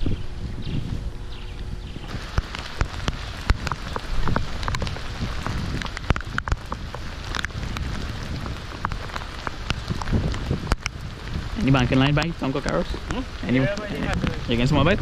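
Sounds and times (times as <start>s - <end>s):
rain falling on the sea: 2.1s - 15.0s.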